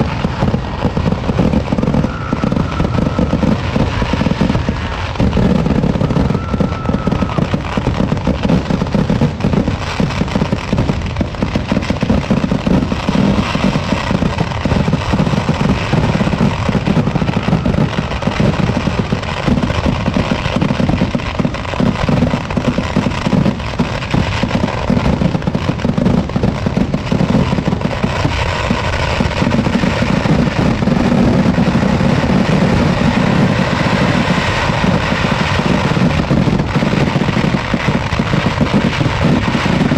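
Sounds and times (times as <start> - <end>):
fireworks exploding in barrage: 0.0 - 39.9.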